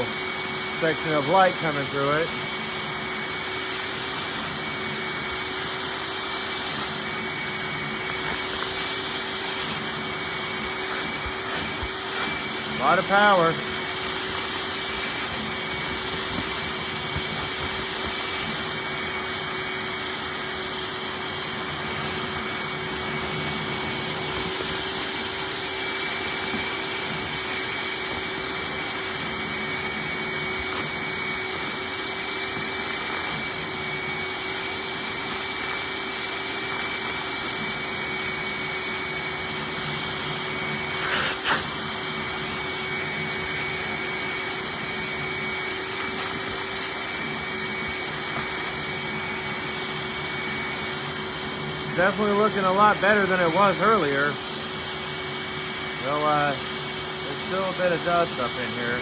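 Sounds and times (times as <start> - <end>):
shop vacuum running: 0.0 - 59.0.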